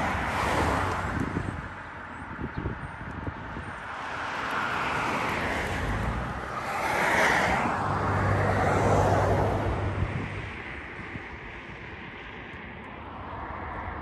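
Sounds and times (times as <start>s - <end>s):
wind buffeting microphone: 0.0s - 13.2s
cars passing: 0.0s - 14.0s.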